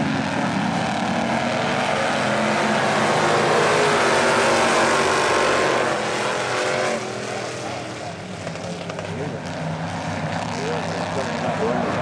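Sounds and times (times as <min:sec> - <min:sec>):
stock car engines racing: 0:00.0 - 0:12.0.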